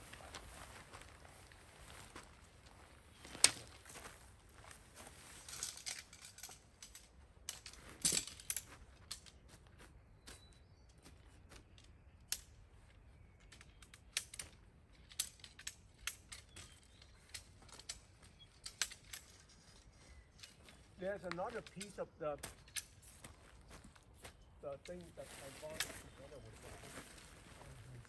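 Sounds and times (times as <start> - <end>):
tent poles clicking and clinking: 1.1 - 9.7, 10.3 - 28.0.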